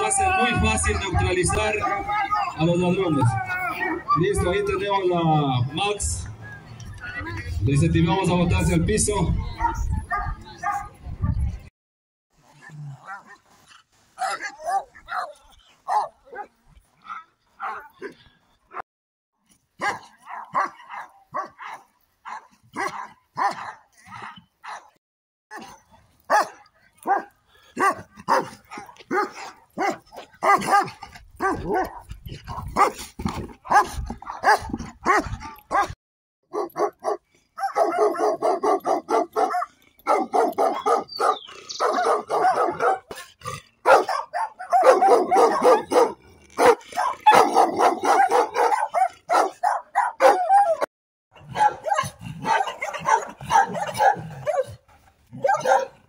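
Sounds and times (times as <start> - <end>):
dogs barking fiercely: 0.0 - 4.8, 9.5 - 11.0, 12.6 - 13.4, 14.2 - 18.8, 19.8 - 56.0.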